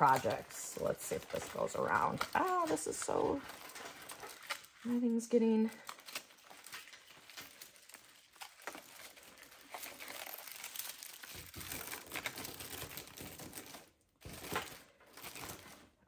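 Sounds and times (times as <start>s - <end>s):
garland rustling and crinkling: 0.0s - 16.0s.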